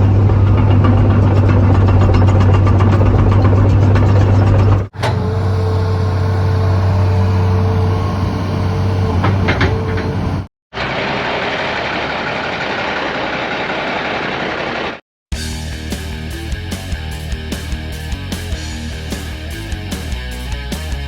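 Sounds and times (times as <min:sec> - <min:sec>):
diesel engine humming: 0:00.0 - 0:20.9
engine with high whine: 0:00.0 - 0:21.0.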